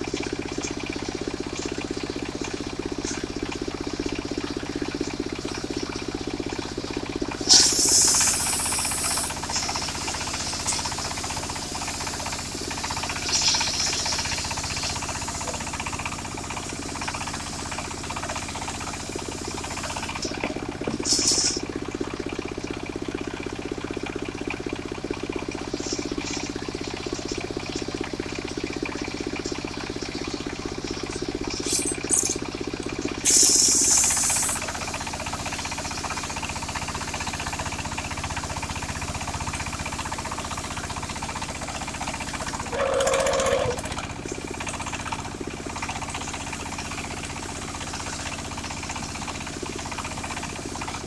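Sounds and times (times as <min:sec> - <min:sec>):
engine-driven circular sawmill running: 0:00.0 - 0:51.0.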